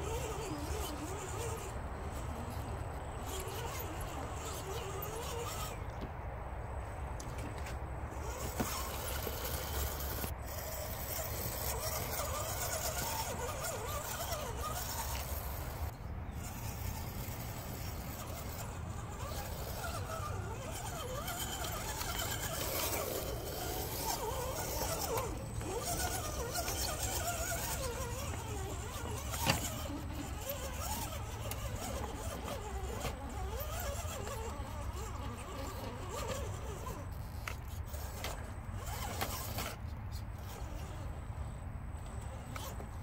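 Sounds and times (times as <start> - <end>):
electric motor and gears whining: 0.0 - 43.0.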